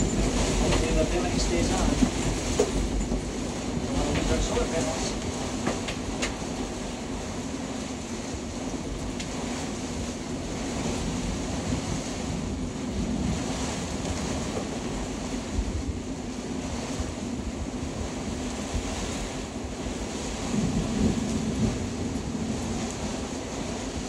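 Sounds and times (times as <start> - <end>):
low rumble: 0.0 - 24.0
storm wind rushing: 0.0 - 24.0.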